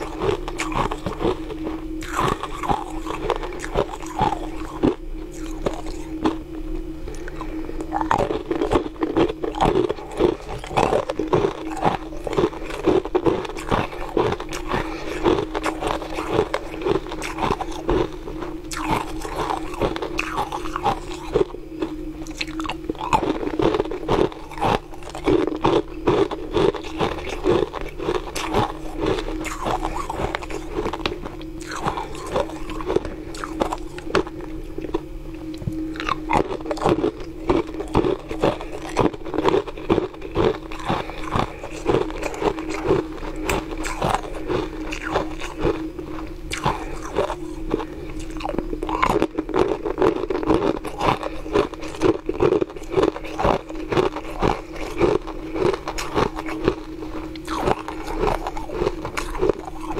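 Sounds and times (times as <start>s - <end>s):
ice cubes crunching in mouth: 0.0s - 6.4s, 7.1s - 59.9s
low hum: 0.0s - 59.9s.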